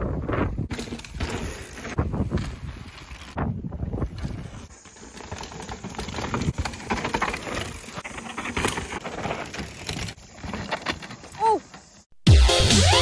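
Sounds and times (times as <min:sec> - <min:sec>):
bike rattling: 0:00.0 - 0:12.1
tyres crunching over dirt and stones: 0:00.7 - 0:12.1.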